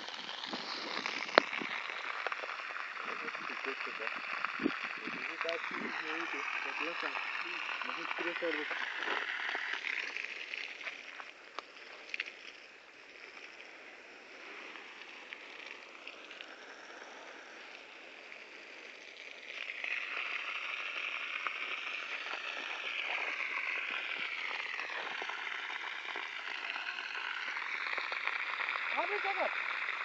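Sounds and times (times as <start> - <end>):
splashing water rushing: 0.0 - 30.0.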